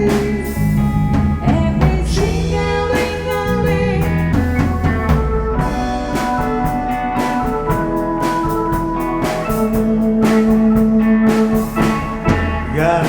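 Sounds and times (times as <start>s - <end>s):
drum kit hi-hat and snare: 0.0s - 13.0s
guitar: 0.0s - 13.0s
held keyboard notes: 0.0s - 13.0s
keyboard bass line: 0.0s - 13.0s.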